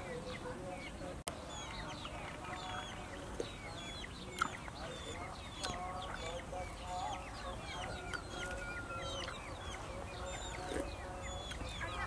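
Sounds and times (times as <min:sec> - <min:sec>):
birds chirping: 0:00.0 - 0:12.0
chickens clucking: 0:00.0 - 0:12.0.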